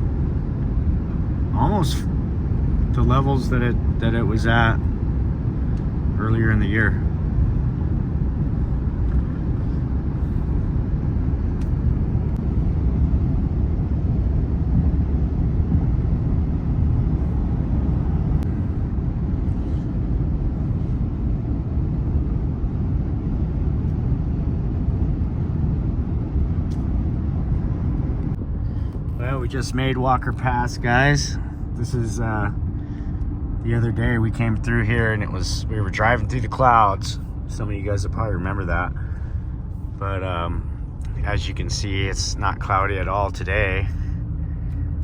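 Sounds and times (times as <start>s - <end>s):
vehicle tyre and engine rumble: 0.0s - 45.0s.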